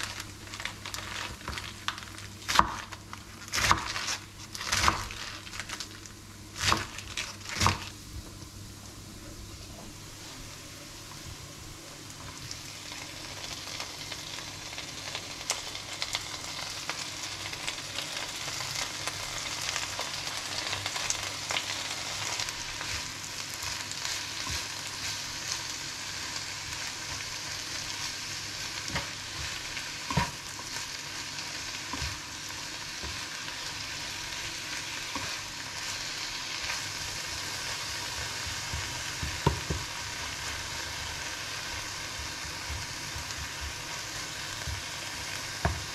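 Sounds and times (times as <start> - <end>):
spinach sizzling in a frying pan: 0.0 - 45.9.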